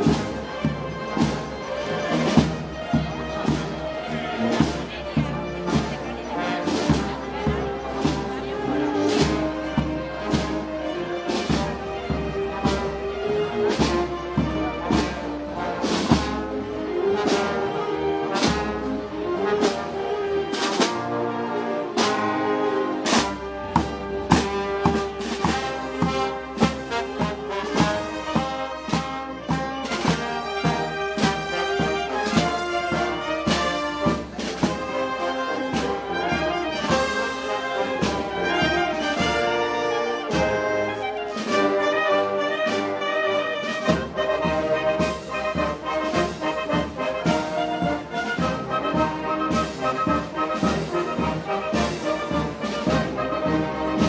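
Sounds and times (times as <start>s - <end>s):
percussion strikes: 0.0s - 19.9s, 23.0s - 40.5s, 43.6s - 54.0s
brass band playing: 0.0s - 54.0s
trumpets and trombones melody: 0.0s - 54.0s.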